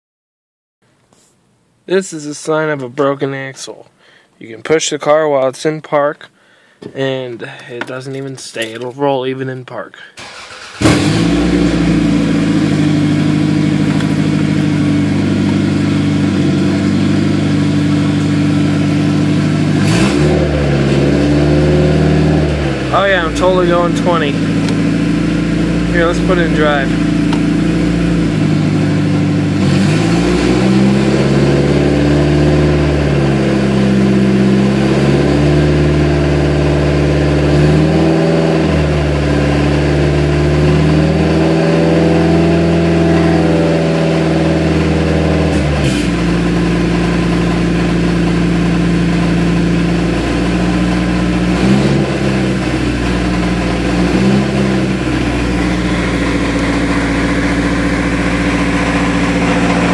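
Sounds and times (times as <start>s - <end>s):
car engine revving: 10.2s - 59.9s.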